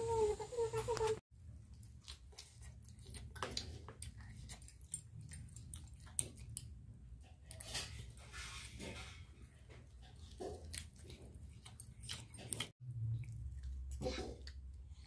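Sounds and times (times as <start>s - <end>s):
children chewing and smacking: 0.8s - 15.0s.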